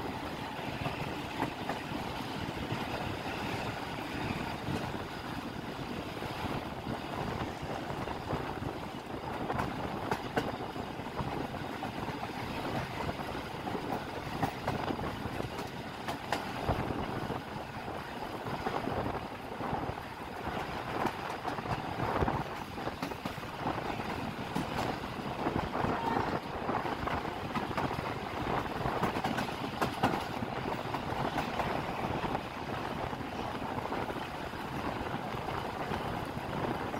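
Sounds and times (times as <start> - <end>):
rumble of wheels on rails: 0.0 - 36.9.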